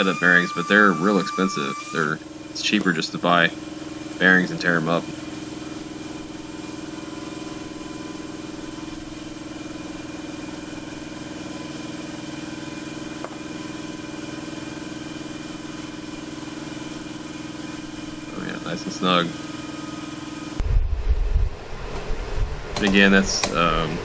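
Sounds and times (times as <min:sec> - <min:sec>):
steady motor hum: 0:00.0 - 0:24.0.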